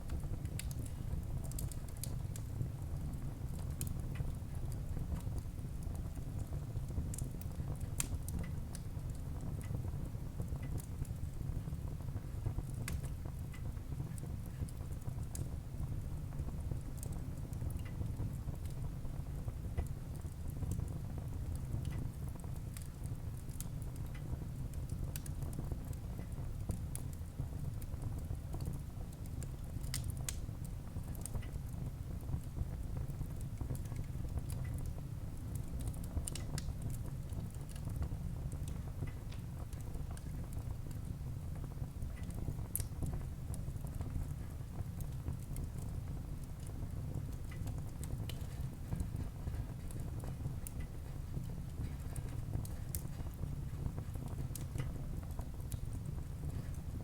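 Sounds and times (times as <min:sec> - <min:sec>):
fire crackles and pops: 0:00.0 - 0:57.0
low rumble of flame: 0:00.0 - 0:57.0.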